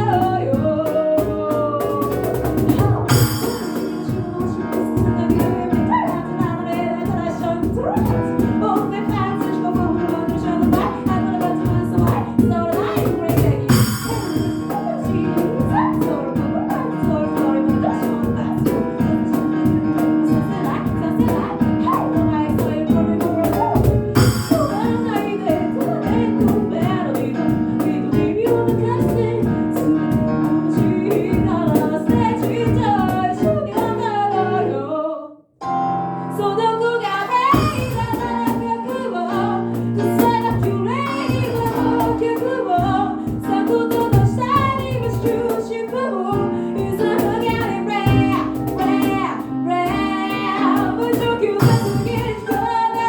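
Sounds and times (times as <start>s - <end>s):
a cappella group singing: 0.0s - 35.2s, 36.7s - 53.0s.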